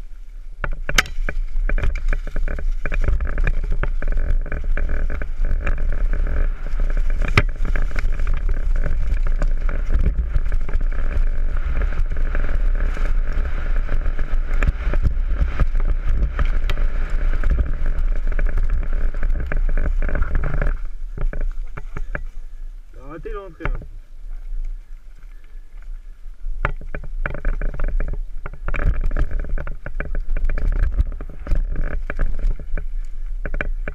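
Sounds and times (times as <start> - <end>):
bike rattling and knocking: 0.0 - 23.9, 26.5 - 33.9
wind on microphone: 0.0 - 33.9.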